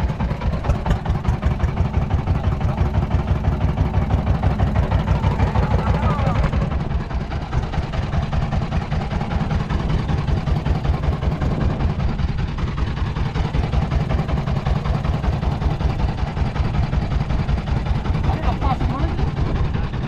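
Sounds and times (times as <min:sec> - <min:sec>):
boat engine throbbing: 0:00.0 - 0:20.0.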